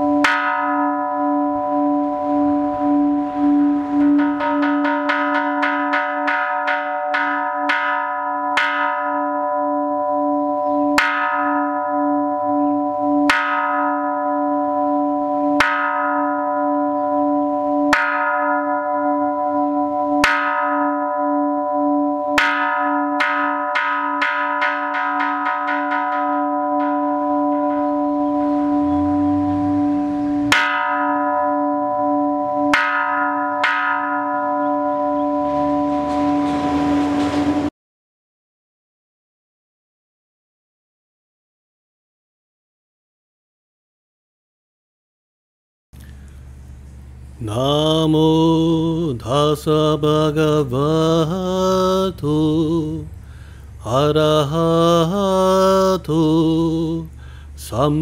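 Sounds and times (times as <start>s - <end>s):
temple bell ringing: 0.0s - 37.7s, 47.4s - 58.0s.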